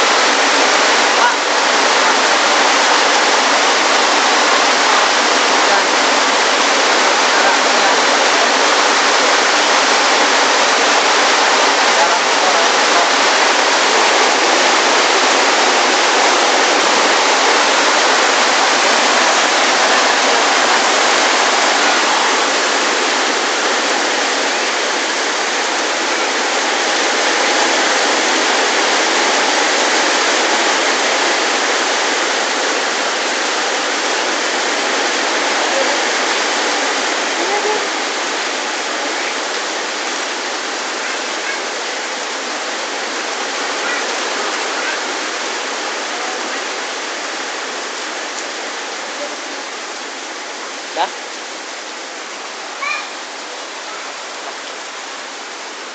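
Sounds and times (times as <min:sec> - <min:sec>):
rain pouring onto water: 0:00.0 - 0:55.9.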